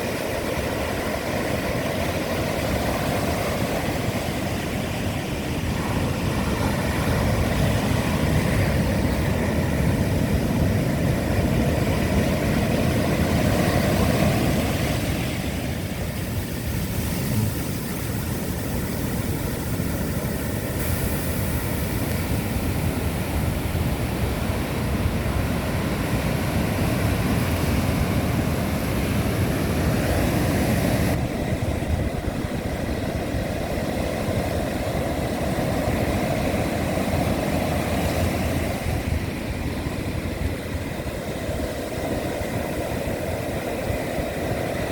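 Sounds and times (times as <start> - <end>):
surf breaking on shore: 0.0 - 44.9
wind buffeting microphone: 0.0 - 44.9.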